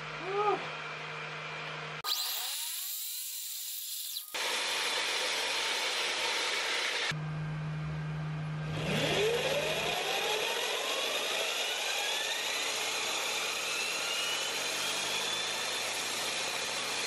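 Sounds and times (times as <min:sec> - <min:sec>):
electric motor whine rising: 0:01.0 - 0:07.8, 0:08.4 - 0:17.0.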